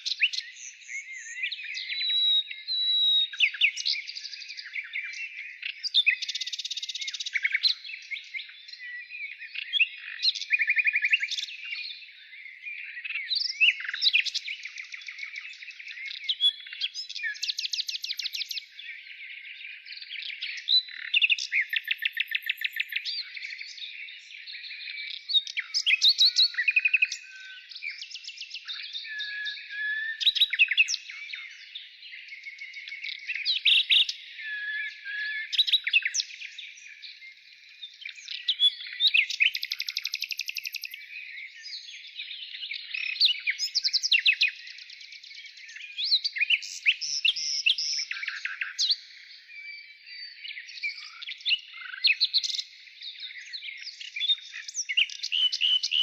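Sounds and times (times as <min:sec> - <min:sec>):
wild birds singing: 0:00.0 - 0:56.0.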